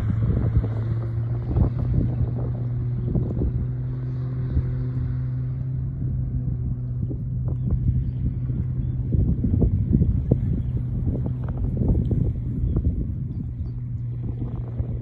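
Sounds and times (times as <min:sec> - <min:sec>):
jet ski engine drone: 0:00.0 - 0:15.0
wind buffeting microphone: 0:00.0 - 0:15.0.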